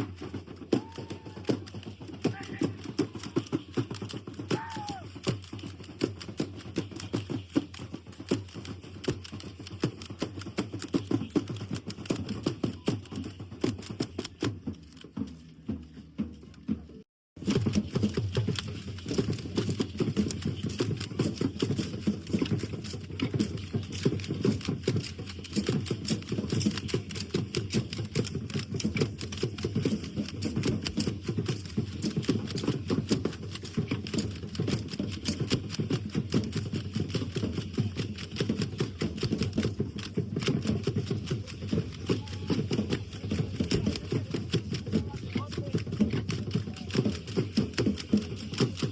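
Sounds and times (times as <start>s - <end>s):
hand rattles clattering: 0.0s - 15.6s, 17.4s - 48.9s.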